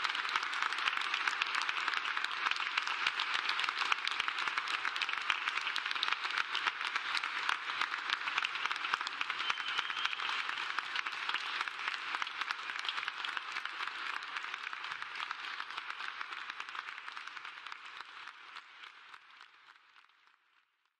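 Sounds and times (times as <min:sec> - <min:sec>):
audience applauding: 0:00.0 - 0:20.5.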